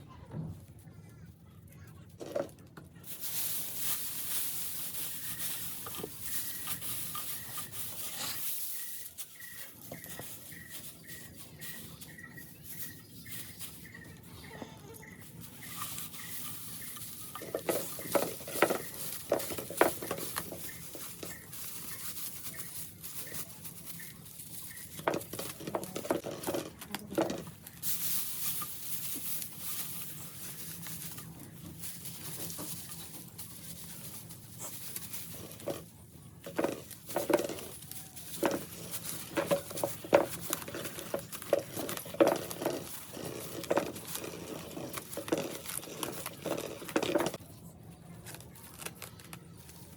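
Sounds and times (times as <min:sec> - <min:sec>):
straw and twigs rustling: 0:00.7 - 0:49.9.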